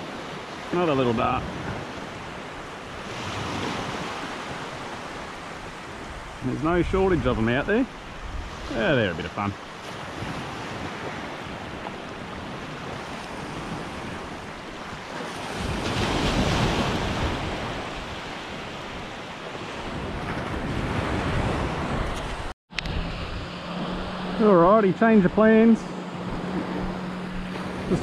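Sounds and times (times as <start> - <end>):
waves breaking on sandy beach: 0.0 - 28.0
wind on microphone: 1.1 - 28.0.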